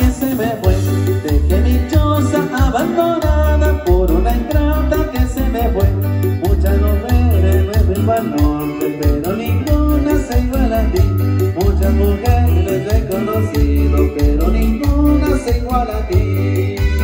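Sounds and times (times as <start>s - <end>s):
guitar: 0.0s - 17.0s
heavy bass line: 0.0s - 17.0s
person singing: 0.0s - 17.0s.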